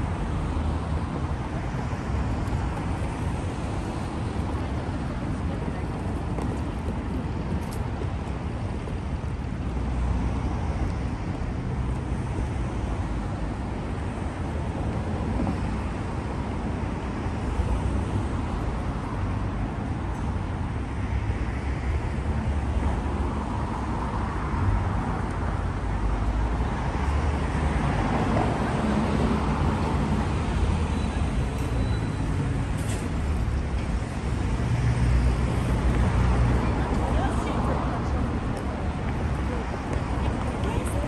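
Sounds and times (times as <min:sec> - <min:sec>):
cars passing: 0:00.0 - 0:41.0.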